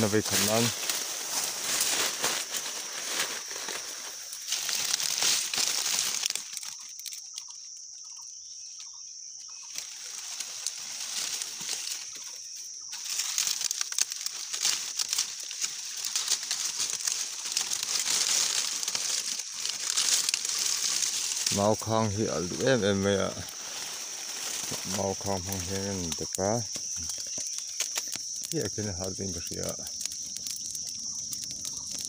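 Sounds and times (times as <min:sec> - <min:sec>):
dry leaves rustling and crackling: 0:00.0 - 0:07.5, 0:08.8 - 0:32.0.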